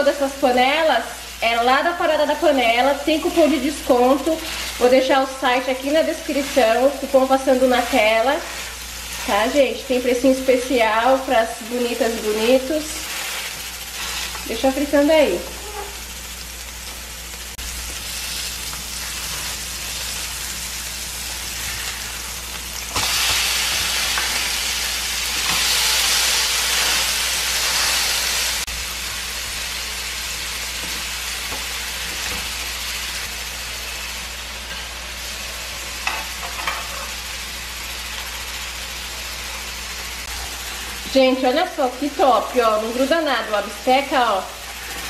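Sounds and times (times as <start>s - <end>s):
pork chops sizzling in a pan: 0.0s - 45.0s.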